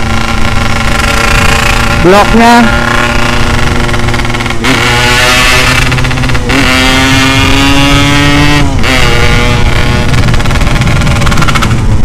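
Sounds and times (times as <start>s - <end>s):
two-stroke motorcycle engine accelerating: 0.0s - 12.0s.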